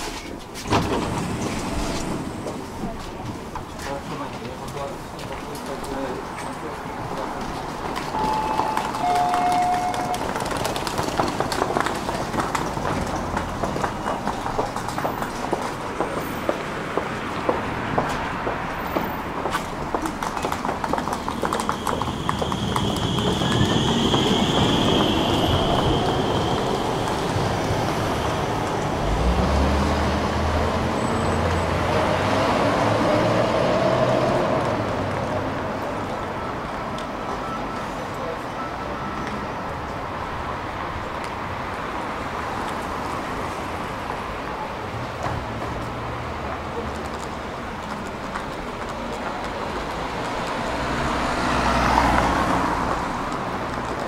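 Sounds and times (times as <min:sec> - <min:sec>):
tram wheels rumbling: 0:00.0 - 0:54.0.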